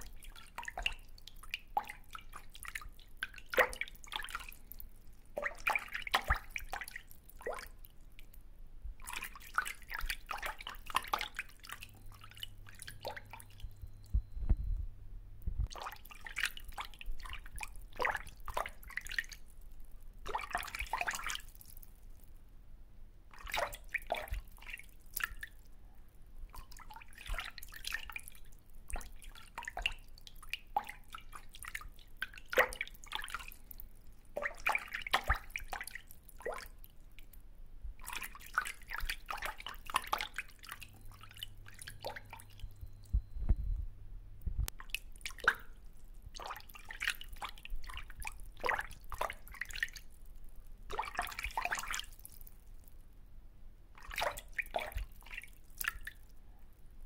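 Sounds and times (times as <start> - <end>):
water dripping into pond: 0.0 - 14.4, 15.4 - 22.4, 23.3 - 43.4, 44.7 - 53.1, 54.0 - 57.0.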